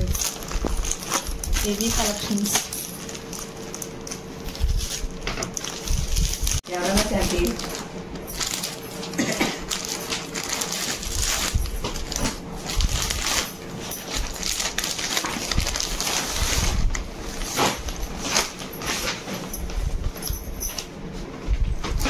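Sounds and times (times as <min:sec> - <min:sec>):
plastic crinkling and rustling: 0:00.0 - 0:20.8.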